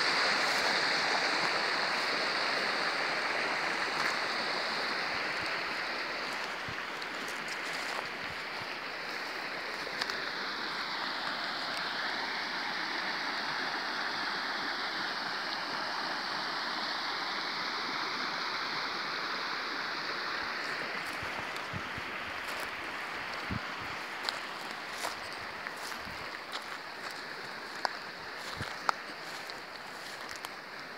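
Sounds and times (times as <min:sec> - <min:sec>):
creek water flowing: 0:00.0 - 0:30.9.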